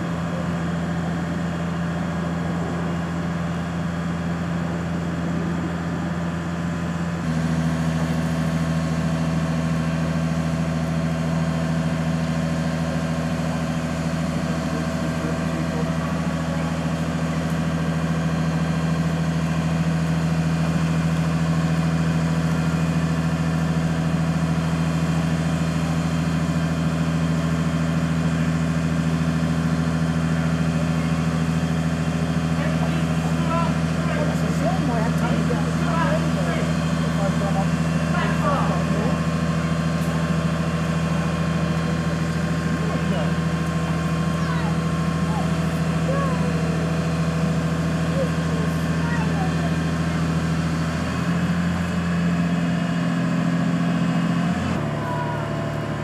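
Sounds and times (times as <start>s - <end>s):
crane diesel engine drone: 0.0s - 56.0s.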